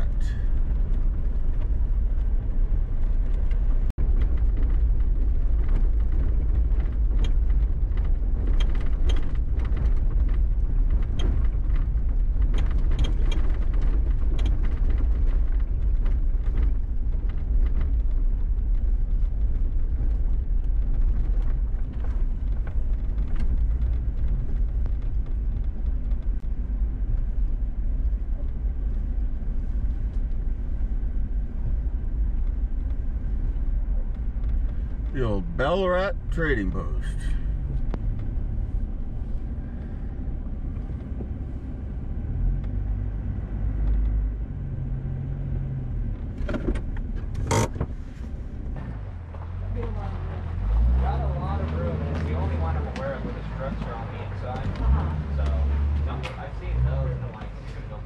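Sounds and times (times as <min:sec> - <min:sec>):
vehicle engine and tyres rumbling: 0:00.0 - 0:58.0.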